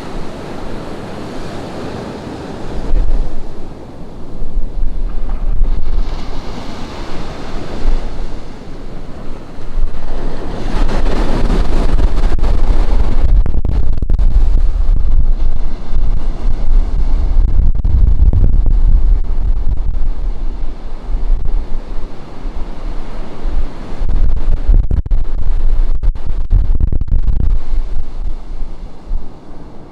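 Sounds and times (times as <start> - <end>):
ocean surf breaking on beach: 0.0 - 13.4, 14.3 - 17.6, 18.4 - 24.7, 27.3 - 29.9
wind buffeting microphone: 0.0 - 29.9.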